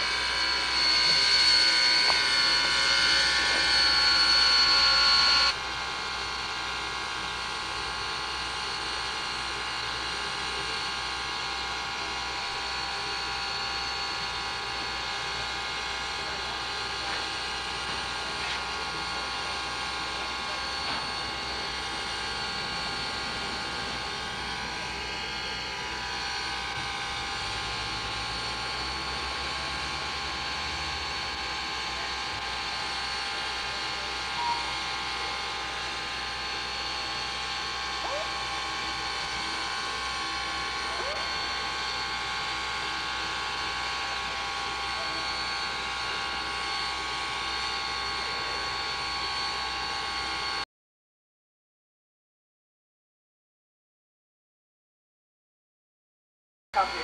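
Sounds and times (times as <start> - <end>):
high whining tones: 0.0 - 50.6
steam locomotive rolling by: 0.0 - 50.6.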